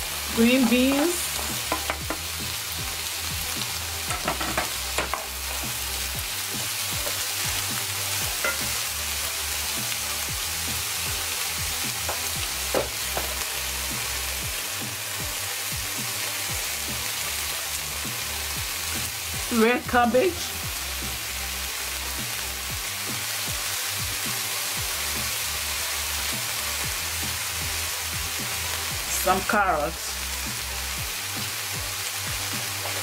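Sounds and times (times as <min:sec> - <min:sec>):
vegetables sizzling in a pan: 0:00.0 - 0:33.0.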